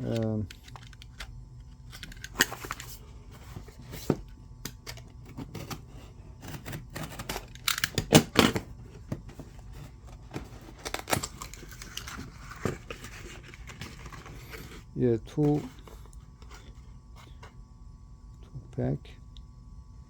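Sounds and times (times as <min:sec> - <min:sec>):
packaging being opened by hand: 0:00.0 - 0:17.4.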